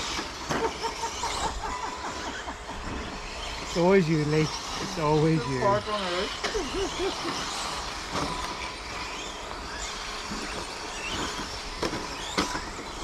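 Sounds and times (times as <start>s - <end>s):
toy car motors whining: 0.0s - 13.0s.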